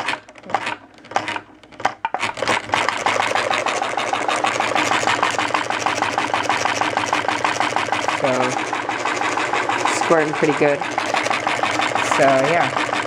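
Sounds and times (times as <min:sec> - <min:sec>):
irregular noises: 0:00.0 - 0:13.0
engine mechanical clatter: 0:02.5 - 0:13.0.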